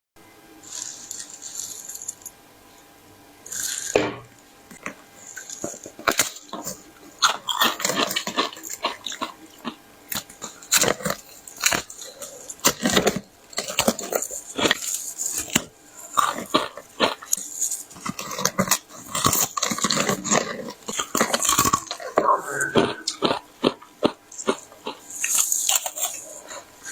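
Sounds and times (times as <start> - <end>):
person crunching ice: 0.6 - 2.3, 3.5 - 4.0, 4.7 - 26.9.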